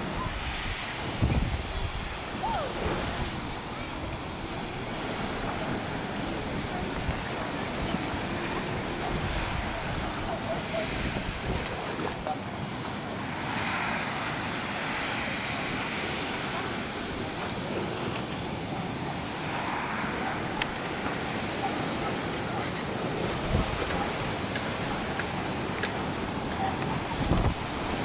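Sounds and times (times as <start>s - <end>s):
sea waves breaking: 0.0s - 28.0s
wind buffeting microphone: 0.0s - 28.0s.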